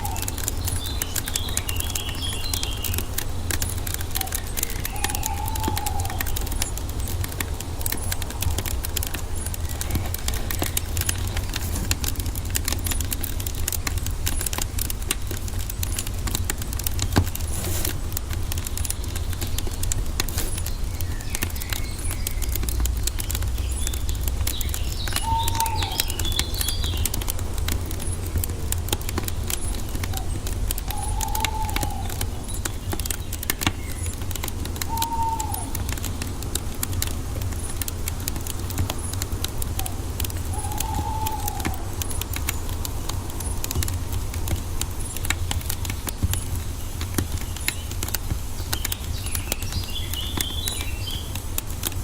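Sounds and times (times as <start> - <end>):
birds chirping: 0.0 - 51.6
wood fire crackling: 0.0 - 52.0.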